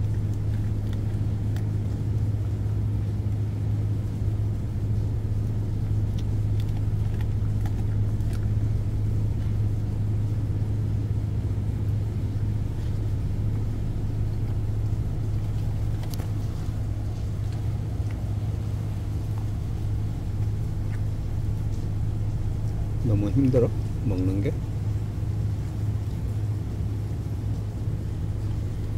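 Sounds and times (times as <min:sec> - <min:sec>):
dog chewing food: 0:00.0 - 0:28.9.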